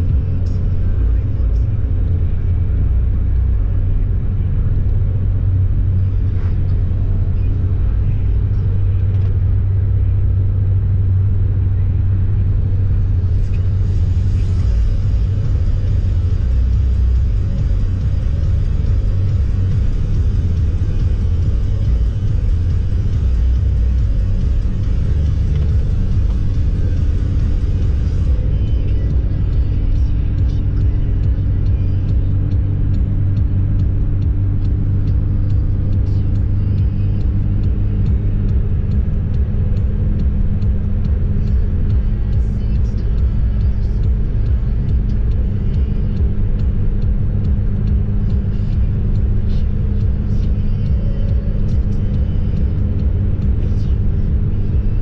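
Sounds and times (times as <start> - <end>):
car engine and road noise: 0.0 - 55.0
steady hum: 0.0 - 55.0.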